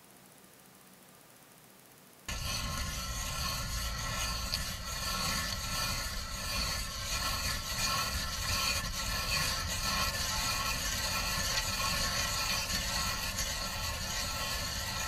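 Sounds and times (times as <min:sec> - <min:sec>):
ice auger grinding through ice: 0:02.3 - 0:15.0.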